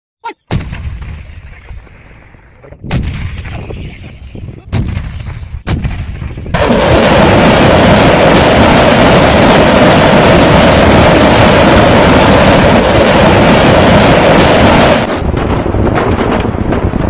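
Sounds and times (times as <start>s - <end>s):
artillery guns firing: 0.5s - 2.0s, 2.8s - 17.0s.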